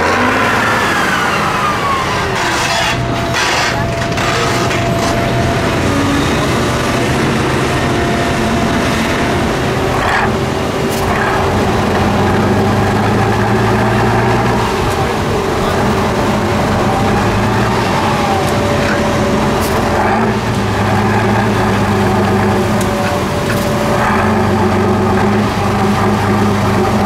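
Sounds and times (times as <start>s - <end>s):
heavy diesel engines under load: 0.0s - 27.0s.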